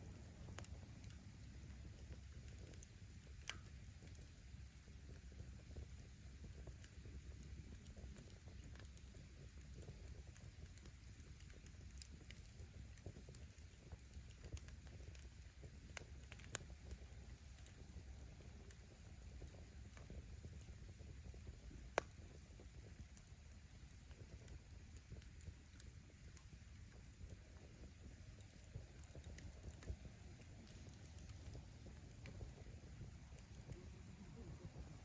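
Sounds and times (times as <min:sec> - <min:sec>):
wood fire rumbling: 0:00.0 - 0:35.0.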